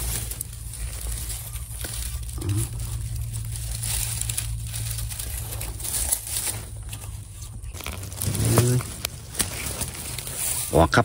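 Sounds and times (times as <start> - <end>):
dry grass rustling and crackling: 0.0 - 11.0.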